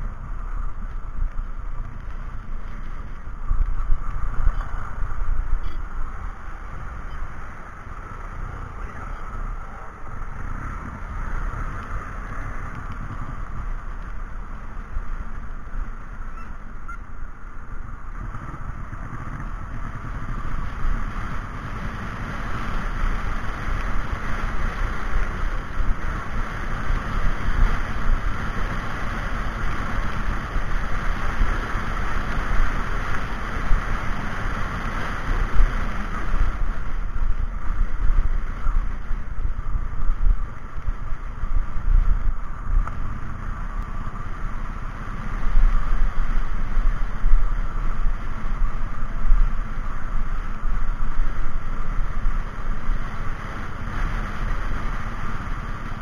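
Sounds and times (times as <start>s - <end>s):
wind and road rumble from vehicle: 0.0s - 56.0s.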